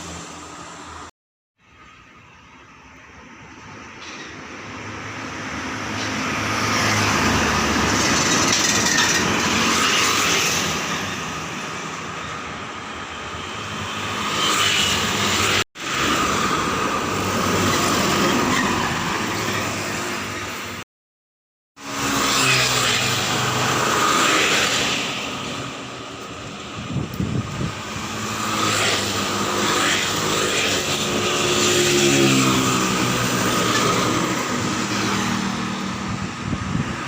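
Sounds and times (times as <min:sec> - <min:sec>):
traffic noise: 0:00.0 - 0:20.8, 0:21.8 - 0:37.0.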